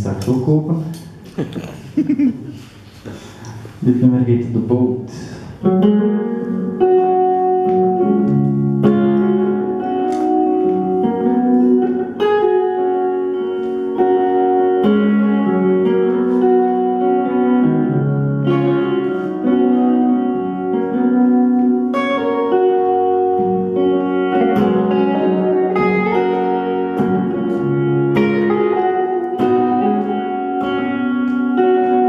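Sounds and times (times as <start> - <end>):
electric guitars playing: 5.3 - 32.0.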